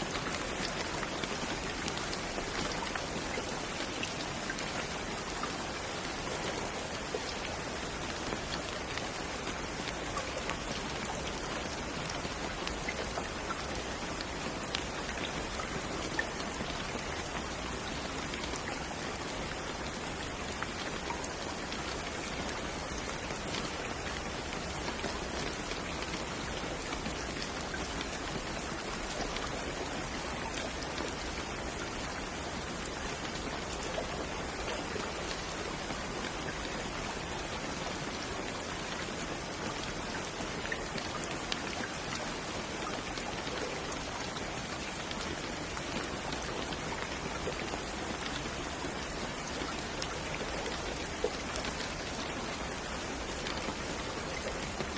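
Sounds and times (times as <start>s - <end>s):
raindrops pattering on surface: 0.0s - 54.9s
steady rain: 0.0s - 54.9s.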